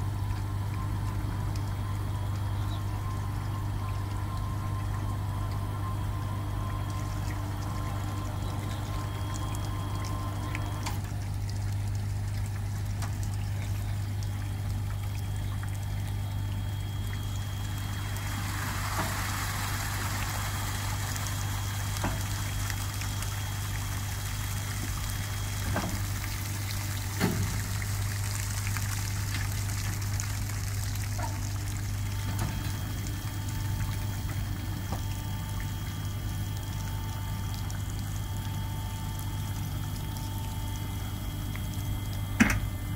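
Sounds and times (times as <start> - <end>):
low machine hum: 0.0 - 42.9
water pouring and trickling: 0.0 - 42.9.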